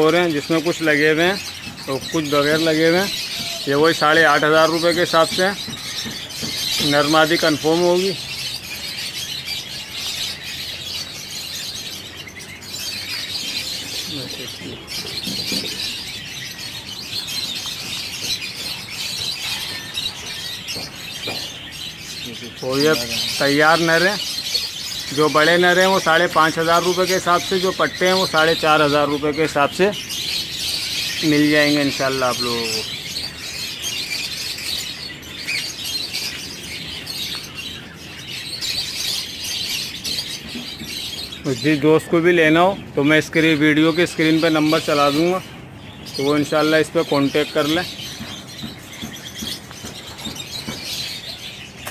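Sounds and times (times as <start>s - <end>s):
caged birds chirping: 0.0s - 51.9s.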